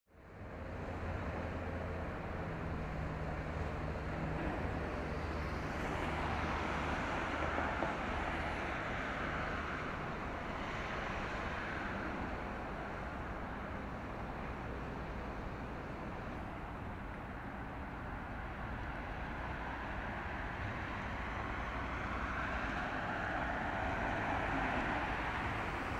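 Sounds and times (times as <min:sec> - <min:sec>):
low engine hum: 0:00.1 - 0:25.9
rushing vehicle noise: 0:00.2 - 0:25.9.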